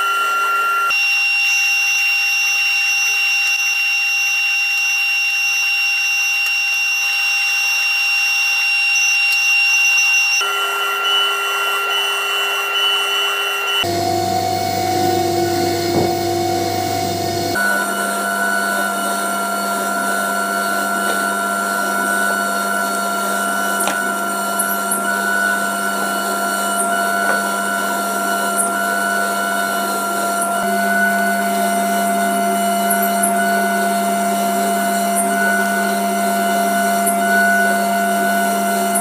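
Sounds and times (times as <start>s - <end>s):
steady hum of held tones: 2.2s - 39.0s.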